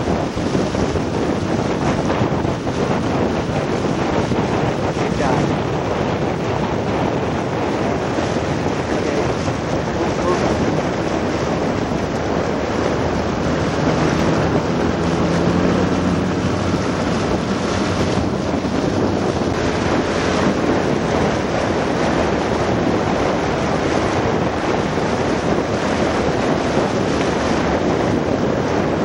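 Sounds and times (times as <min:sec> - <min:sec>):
boat engine drone: 0:00.0 - 0:29.0
water noise: 0:00.0 - 0:29.0
wind on microphone: 0:00.0 - 0:29.0.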